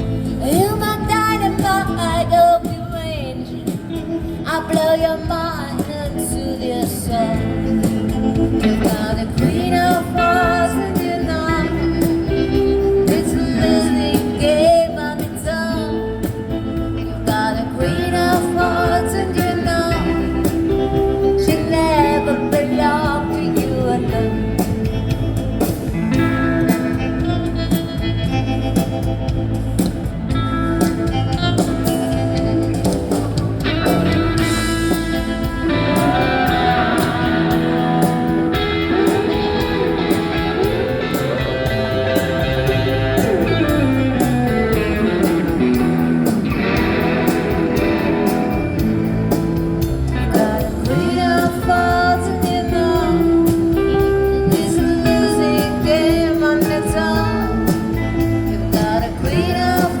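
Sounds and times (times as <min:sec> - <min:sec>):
bass and drums: 0:00.0 - 1:00.0
guitar lead line: 0:00.0 - 1:00.0.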